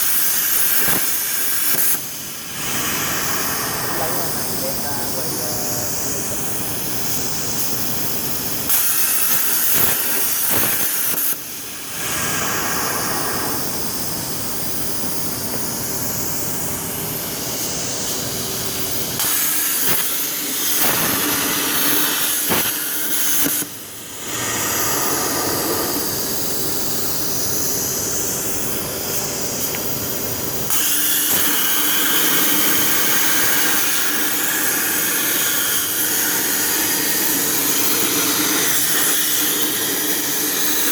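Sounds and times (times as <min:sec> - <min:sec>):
plasma torch arc hissing: 0:00.0 - 0:40.9.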